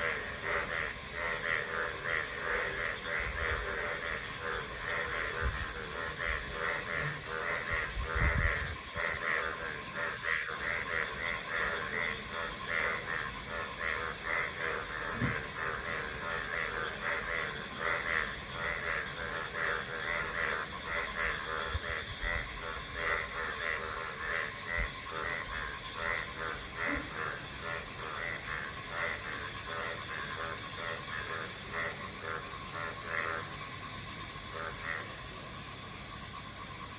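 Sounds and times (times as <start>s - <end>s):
chorus of animal calls: 0.0s - 36.9s.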